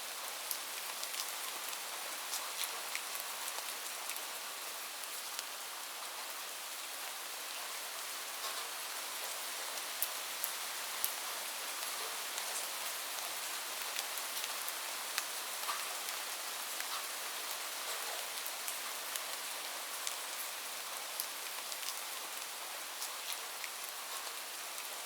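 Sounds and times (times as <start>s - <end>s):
rain drops on hard surface: 0.0s - 25.0s.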